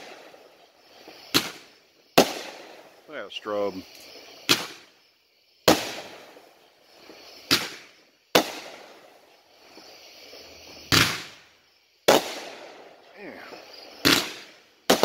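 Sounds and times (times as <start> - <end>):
firework cake bangs echoing: 0.0 - 15.0.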